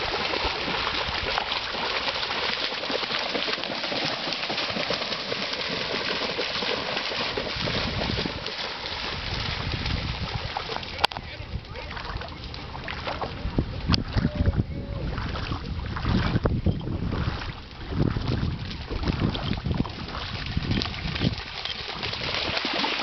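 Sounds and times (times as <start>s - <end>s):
dogs splashing through water: 0.0s - 23.0s.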